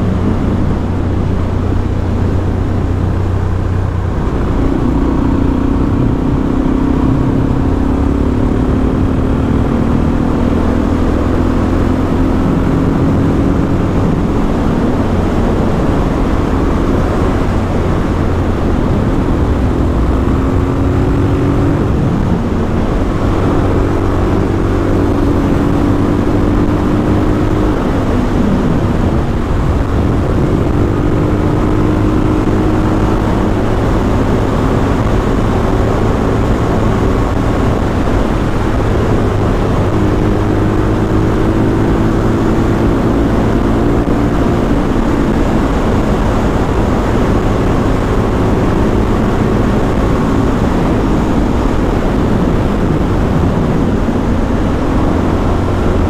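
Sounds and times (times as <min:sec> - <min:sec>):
motorcycle engine running: 0:00.0 - 0:56.0
wind rush: 0:00.0 - 0:56.0.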